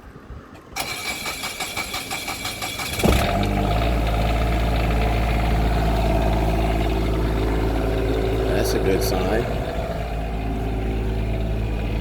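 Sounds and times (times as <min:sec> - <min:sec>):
diesel generator cranking and running: 0:00.6 - 0:12.0.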